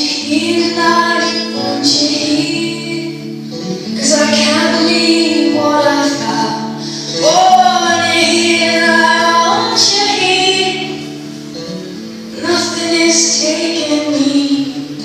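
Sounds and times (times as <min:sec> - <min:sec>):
woman singing over backing music: 0:00.0 - 0:11.0, 0:12.4 - 0:15.0.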